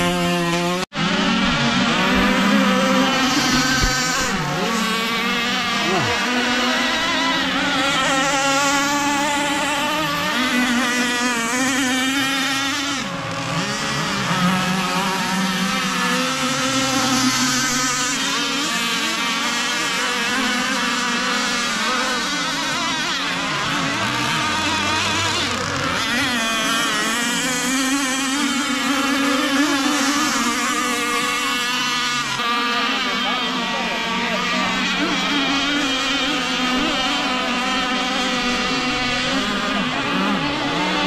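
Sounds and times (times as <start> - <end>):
model boat engines buzzing: 0.0 - 41.0.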